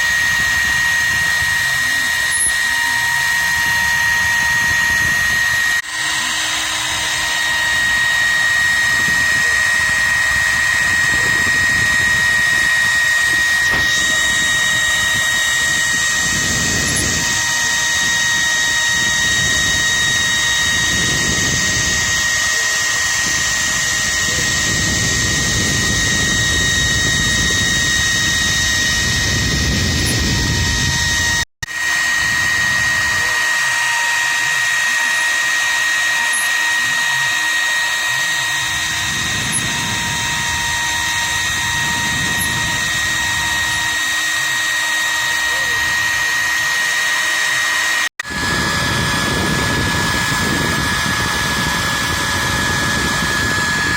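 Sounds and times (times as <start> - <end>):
cutter machining wood: 0.0 - 53.9
router spindle whining: 0.0 - 53.9.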